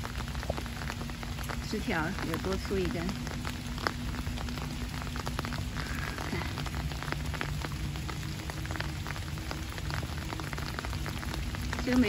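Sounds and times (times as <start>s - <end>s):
rain falling: 0.0s - 12.0s
raindrops ticking close by: 0.0s - 12.0s.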